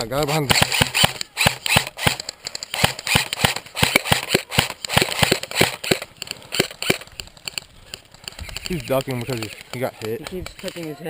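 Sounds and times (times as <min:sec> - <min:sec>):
airsoft rifle shots: 0:00.2 - 0:11.0.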